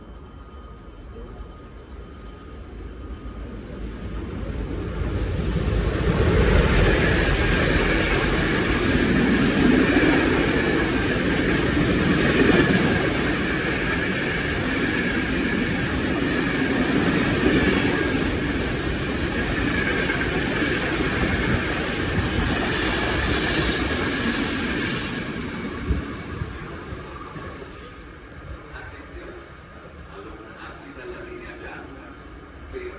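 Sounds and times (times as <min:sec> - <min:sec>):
electric locomotive rumble: 0:00.0 - 0:32.9
rail noise: 0:00.0 - 0:32.9.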